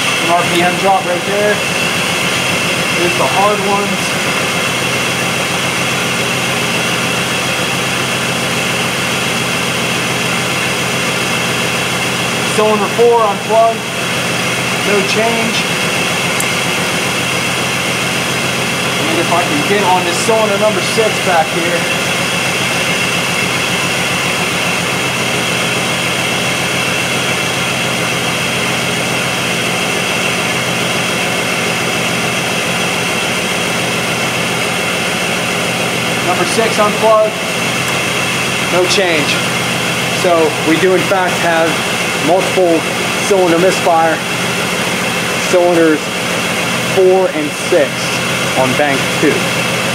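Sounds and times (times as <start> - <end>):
misfiring car engine idling: 0.0 - 49.9.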